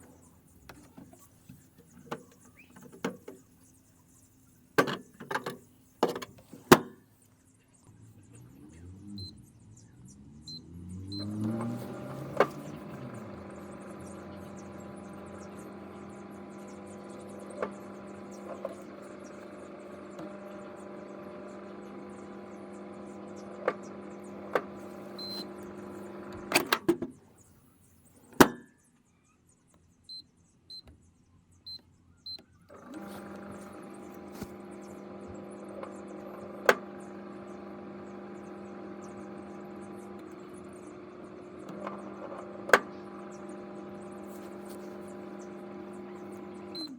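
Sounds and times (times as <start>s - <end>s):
microwave oven humming: 0.0s - 7.0s, 9.1s - 27.1s, 32.3s - 46.9s.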